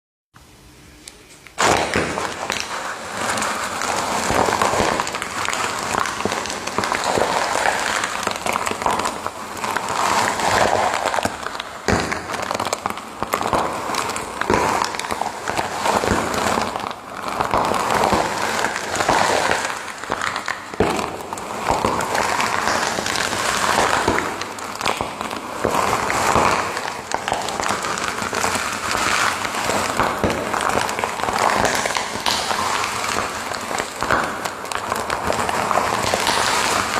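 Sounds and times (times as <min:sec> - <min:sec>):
fire crackling: 0:01.0 - 0:36.9.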